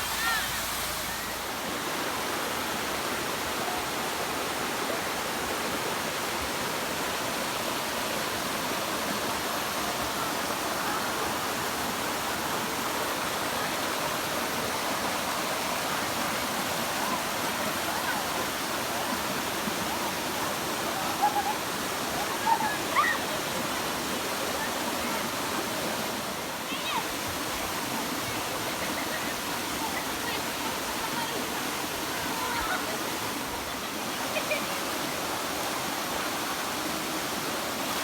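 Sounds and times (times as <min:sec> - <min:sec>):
waterfall pouring and splashing: 0:00.0 - 0:38.0.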